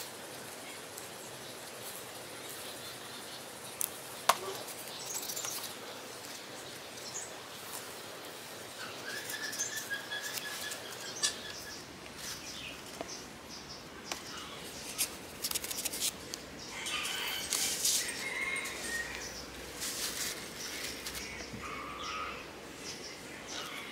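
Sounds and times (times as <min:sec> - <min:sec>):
steady hiss: 0:00.0 - 0:23.9
birds chirping: 0:00.4 - 0:15.4, 0:16.2 - 0:23.9.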